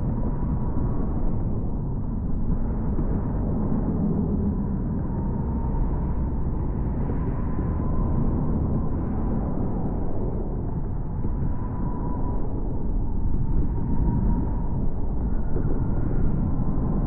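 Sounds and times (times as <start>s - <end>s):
faint thin whine: 0.0s - 17.0s.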